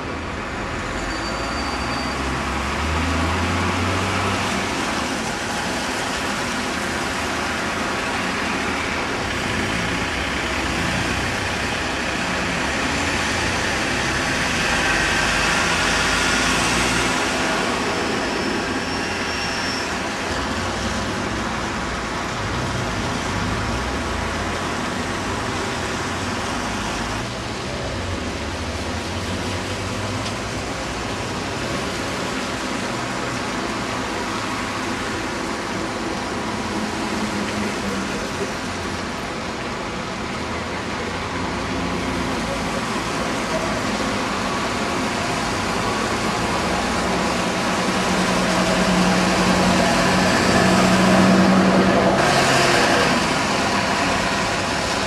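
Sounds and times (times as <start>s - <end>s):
traffic passing: 0.0s - 55.0s.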